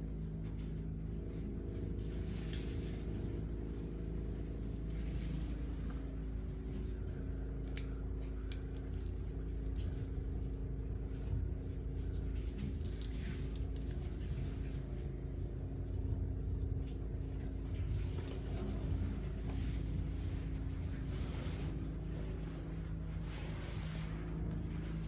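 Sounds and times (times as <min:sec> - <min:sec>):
steady low hum with tones: 0:00.0 - 0:25.0.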